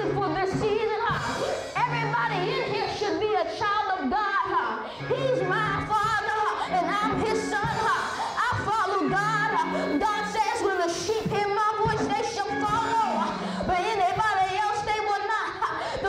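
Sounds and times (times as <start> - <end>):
gospel singing with vibrato: 0.0 - 16.0
instrumental accompaniment: 0.0 - 16.0.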